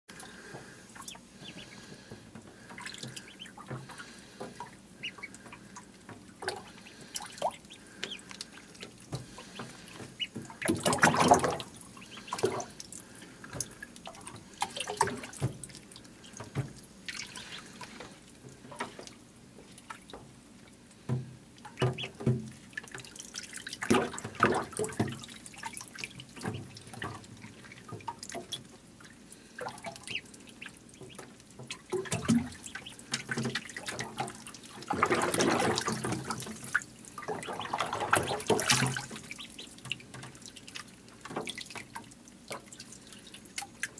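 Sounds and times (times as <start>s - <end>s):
ducklings splashing in water: 0.1s - 43.9s.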